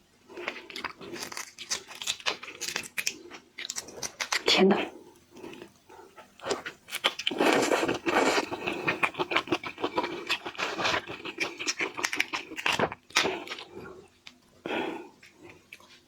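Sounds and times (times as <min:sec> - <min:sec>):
shrimp shell crackling while chewed: 0:00.3 - 0:16.0.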